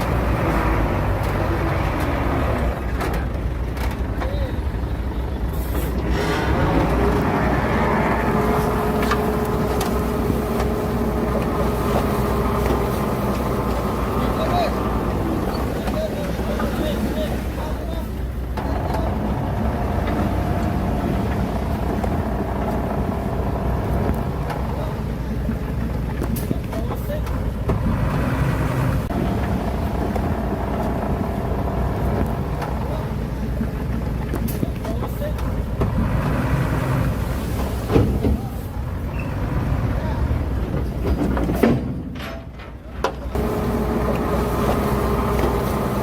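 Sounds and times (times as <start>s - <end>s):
heavy diesel engine rumbling: 0.0s - 46.0s.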